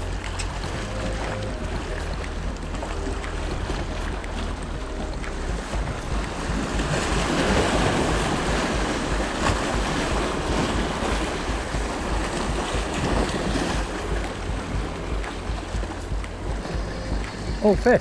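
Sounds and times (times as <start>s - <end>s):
sea waves washing against shore: 0.0s - 18.0s
wind buffeting microphone: 0.0s - 18.0s.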